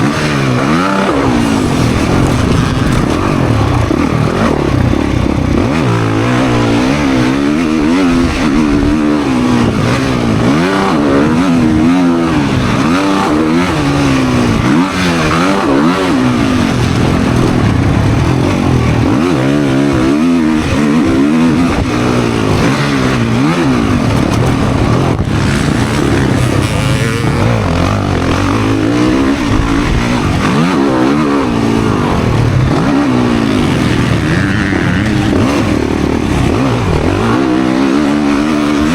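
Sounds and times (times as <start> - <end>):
dirt bike engine revving: 0.0 - 38.9
wind rushing: 0.6 - 37.6.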